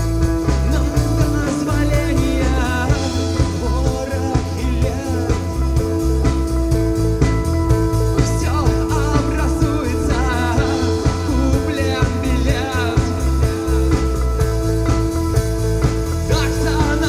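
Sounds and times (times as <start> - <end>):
live rock band playing: 0.0 - 17.0
wavering lead guitar melody: 0.0 - 17.0.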